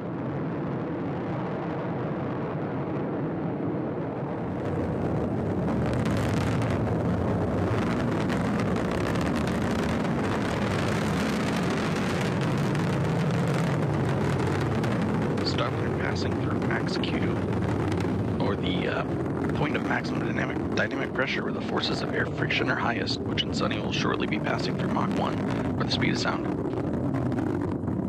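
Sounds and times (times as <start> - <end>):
rocket engine deep rumble: 0.0 - 28.0.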